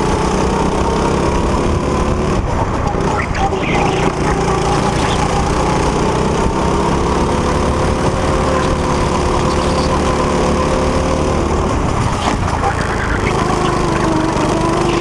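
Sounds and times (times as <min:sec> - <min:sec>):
go-kart engine buzzing: 0:00.0 - 0:15.0.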